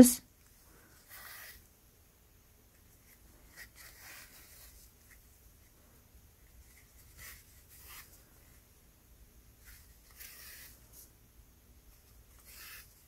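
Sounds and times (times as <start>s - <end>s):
yarn rustling through stitches: 0.0s - 1.8s, 2.6s - 8.8s, 9.4s - 11.2s, 11.8s - 13.0s.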